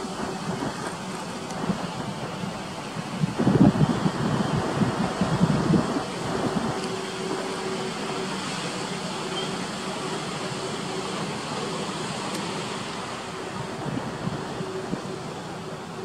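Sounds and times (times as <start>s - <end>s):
wind on the microphone: 0.0s - 8.8s, 12.0s - 16.0s
distant surf breaking on beach: 0.0s - 16.0s.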